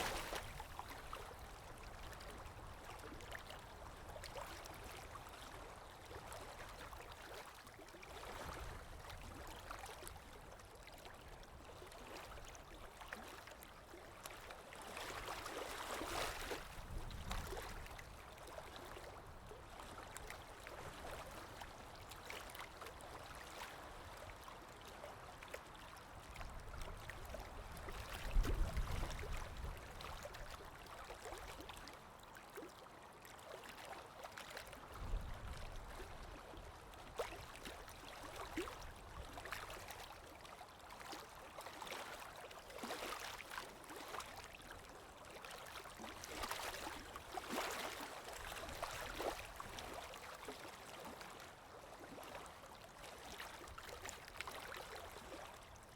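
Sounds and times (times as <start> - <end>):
water lapping and splashing: 0.0 - 55.9.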